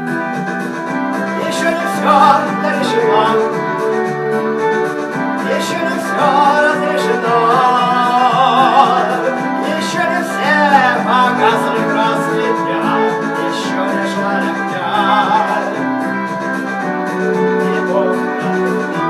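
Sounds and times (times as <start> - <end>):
music with vibrato melody: 0.0 - 19.0.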